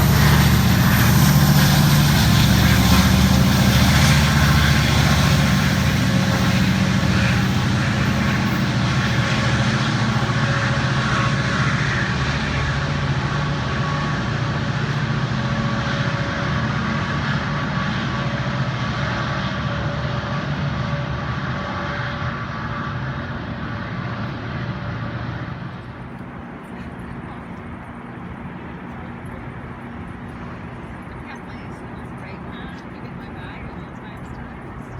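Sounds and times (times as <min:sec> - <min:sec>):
locomotive engine humming: 0:00.0 - 0:34.9
steady train tones: 0:00.0 - 0:34.9.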